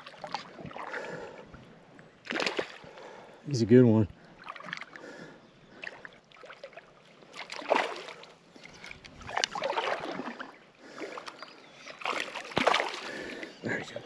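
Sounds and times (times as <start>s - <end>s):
creek water splashing: 0.0s - 3.4s, 4.1s - 14.0s.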